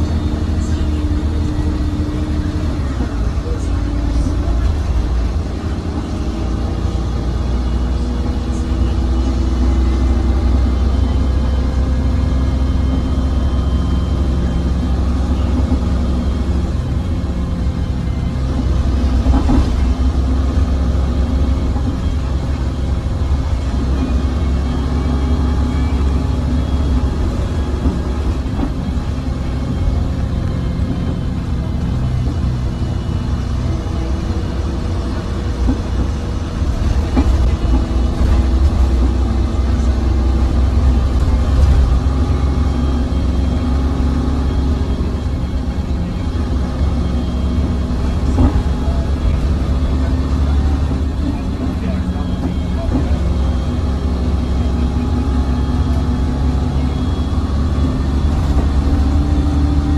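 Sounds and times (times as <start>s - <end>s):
bus engine drone: 0.0s - 59.9s
road noise rumble: 0.0s - 59.9s.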